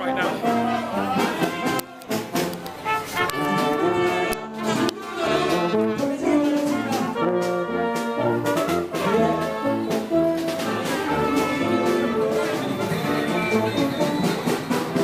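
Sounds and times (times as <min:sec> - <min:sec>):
brass marching band playing: 0:00.0 - 0:15.0.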